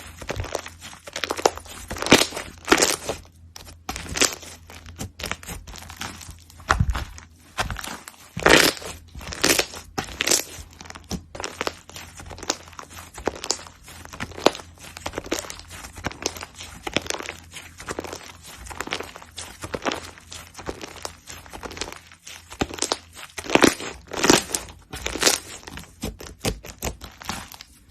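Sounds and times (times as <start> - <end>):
slime squelching and popping: 0.0 - 27.9.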